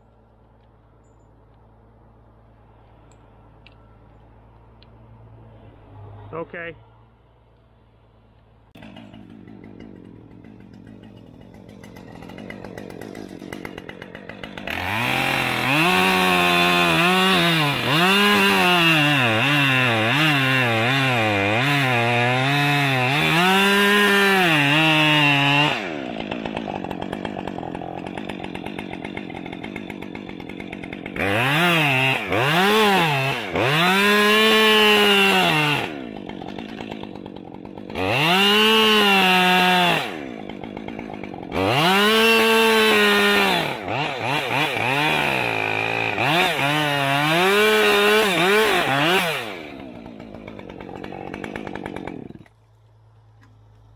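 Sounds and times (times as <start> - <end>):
chainsaw idling and cutting wood: 0.0 - 53.9.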